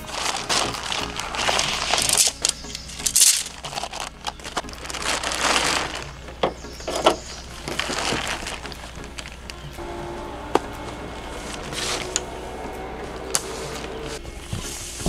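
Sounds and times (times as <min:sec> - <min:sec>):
tent fabric rustling: 0:00.0 - 0:15.0
tent poles clicking and rattling: 0:00.0 - 0:15.0.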